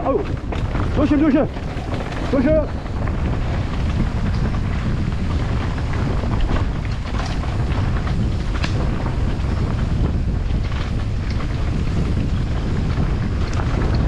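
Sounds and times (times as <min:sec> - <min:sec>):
bike rattling on rough trail: 0:00.0 - 0:14.0
wind buffeting microphone: 0:00.0 - 0:14.0.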